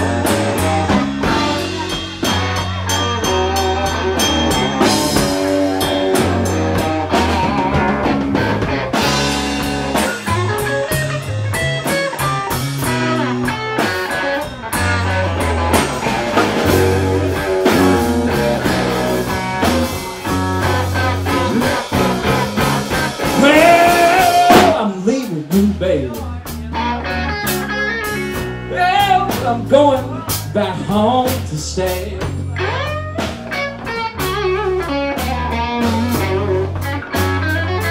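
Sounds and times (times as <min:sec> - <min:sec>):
bass line: 0:00.0 - 0:37.9
drums: 0:00.0 - 0:37.9
lead guitar: 0:00.0 - 0:37.9.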